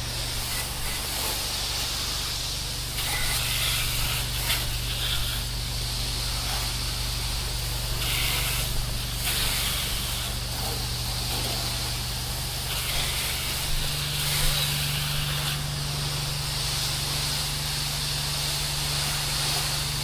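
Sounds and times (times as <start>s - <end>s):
hose nozzle spray hissing: 0.0s - 20.0s
pump humming: 0.0s - 20.0s.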